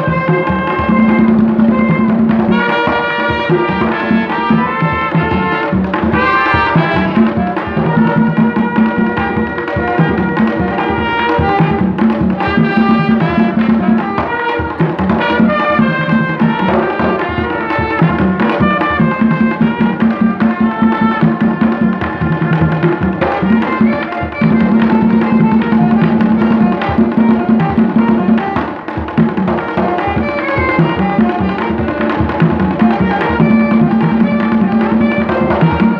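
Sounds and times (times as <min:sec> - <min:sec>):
hand drums beating: 0:00.0 - 0:35.9
trumpet melody: 0:00.0 - 0:35.9.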